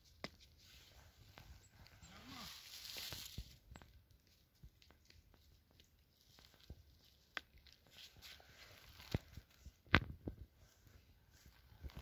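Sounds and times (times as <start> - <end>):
pine needles and twigs crackling: 0.0 - 12.0.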